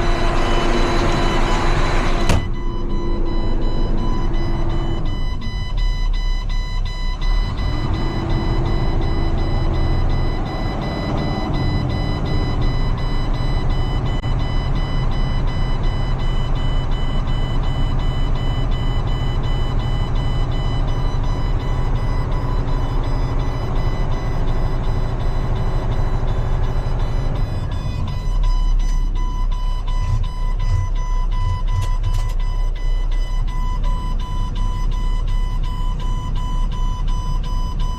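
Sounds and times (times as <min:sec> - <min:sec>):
diesel engine rumbling: 0:00.0 - 0:37.9.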